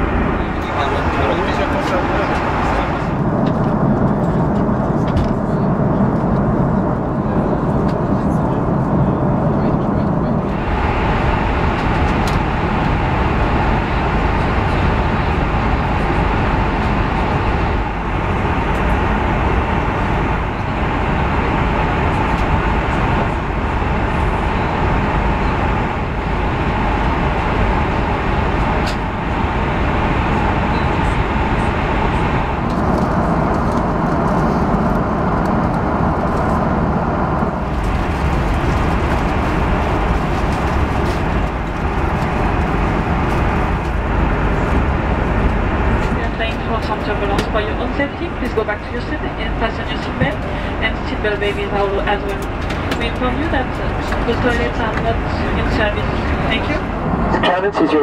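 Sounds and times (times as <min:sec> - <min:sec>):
aircraft cabin engine noise: 0:00.0 - 0:58.0.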